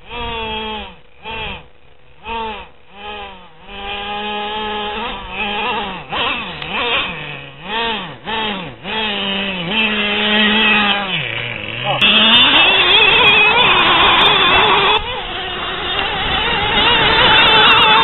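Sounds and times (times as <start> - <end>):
small engine revving in bursts: 0.0 - 18.0.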